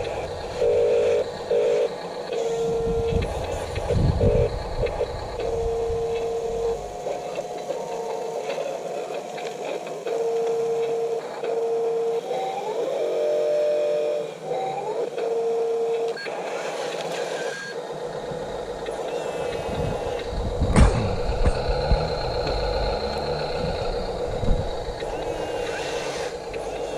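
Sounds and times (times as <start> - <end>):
small electric motors whining: 0.0 - 26.9.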